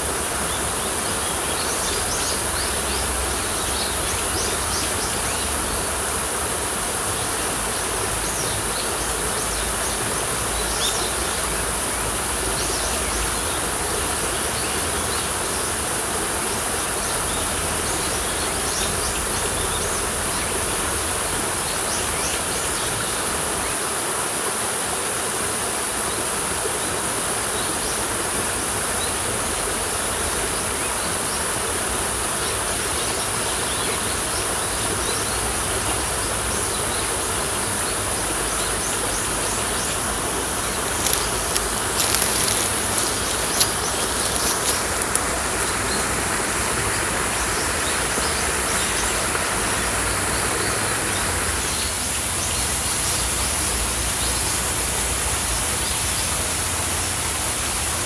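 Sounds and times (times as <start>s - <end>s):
water rushing over rocks: 0.0s - 58.0s.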